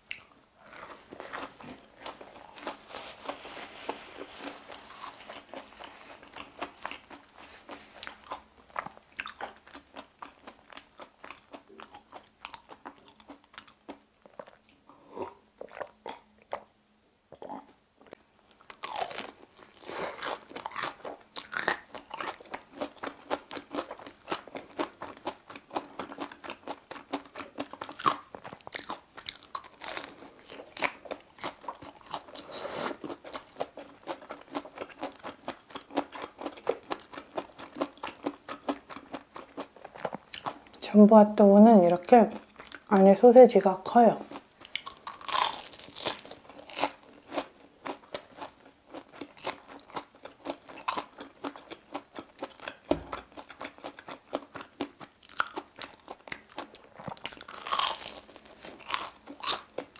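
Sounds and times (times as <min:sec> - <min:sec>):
crunchy chewing: 0:00.1 - 0:16.7, 0:17.3 - 0:40.8, 0:42.3 - 0:43.0, 0:44.3 - 0:59.9.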